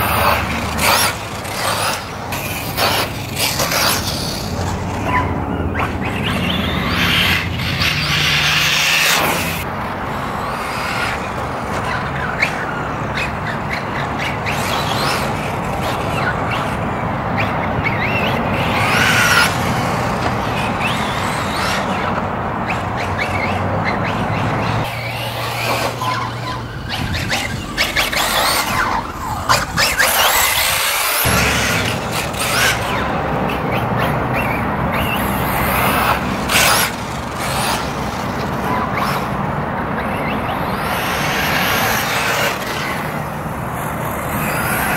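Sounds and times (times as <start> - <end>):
tyres on dirt: 0.0 - 44.9.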